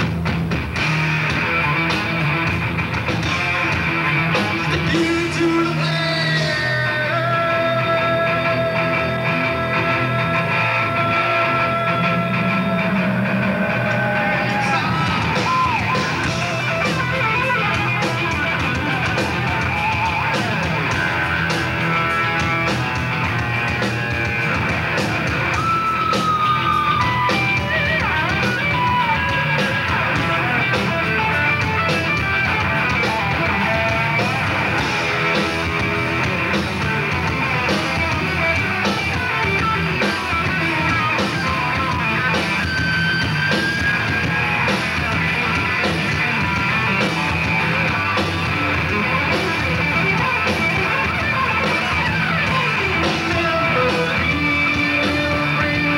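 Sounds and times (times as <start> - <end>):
heavy rock band playing: 0.0 - 55.9.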